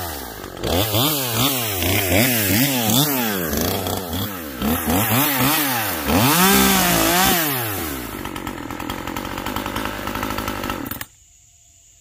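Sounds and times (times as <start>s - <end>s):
chainsaw revving: 0.0s - 11.1s.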